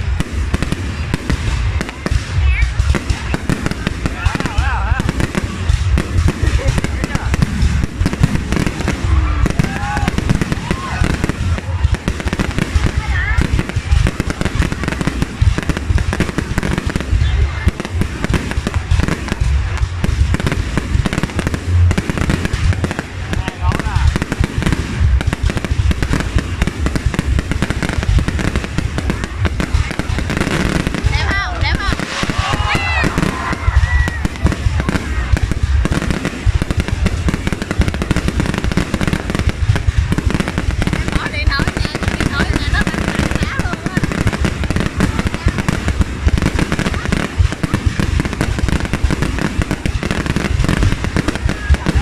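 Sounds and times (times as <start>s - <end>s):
fireworks booming and crackling: 0.0s - 52.0s.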